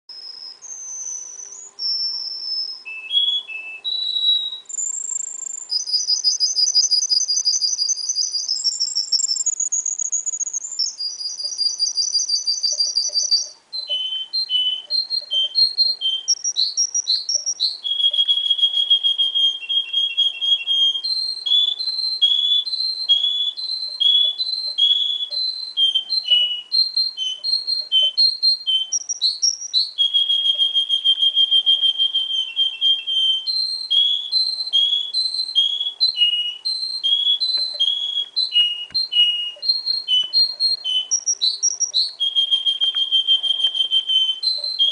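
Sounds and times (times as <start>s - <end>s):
canary singing trills: 0.1s - 44.9s.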